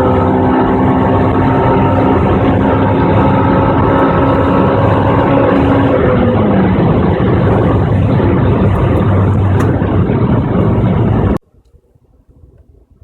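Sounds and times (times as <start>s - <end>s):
car engine running: 0.0s - 11.4s.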